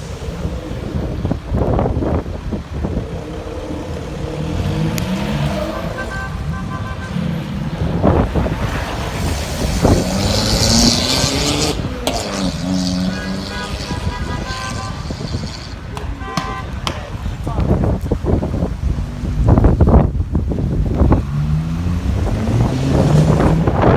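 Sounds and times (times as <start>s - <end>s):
car engines revving: 0.0s - 23.9s
exhaust cracks: 0.0s - 23.9s.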